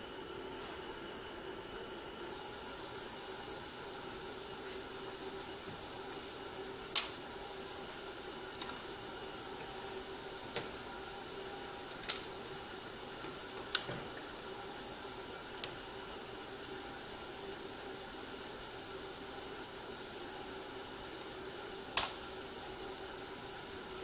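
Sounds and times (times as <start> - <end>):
faint hum: 0.0 - 24.0
steady hiss: 0.0 - 24.0.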